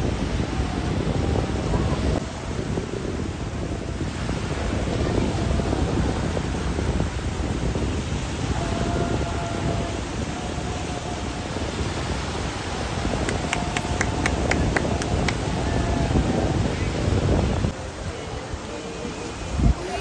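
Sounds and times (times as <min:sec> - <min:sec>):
small waves breaking: 0:00.0 - 0:20.0
wind rumbling on microphone: 0:00.0 - 0:20.0.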